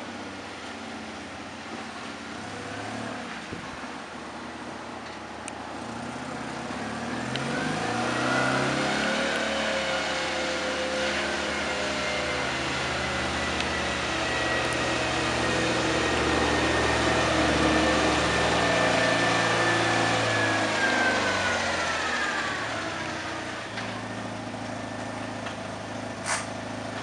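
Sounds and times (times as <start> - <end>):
car engine driving: 0.0 - 27.0.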